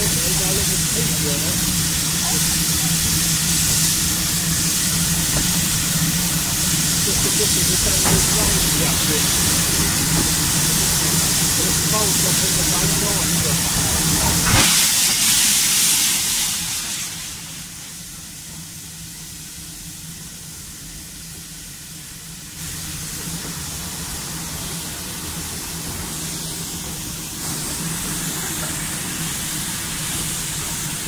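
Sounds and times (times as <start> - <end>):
steam locomotive hissing: 0.0 - 31.0.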